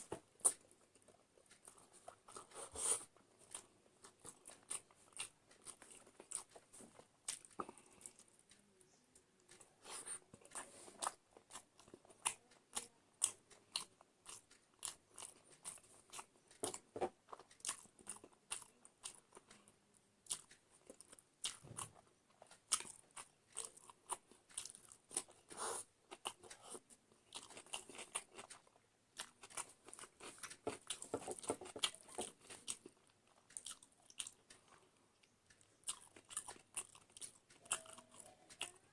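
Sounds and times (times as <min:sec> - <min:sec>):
person chewing crunchy food: 0:00.0 - 0:08.5, 0:09.4 - 0:38.9.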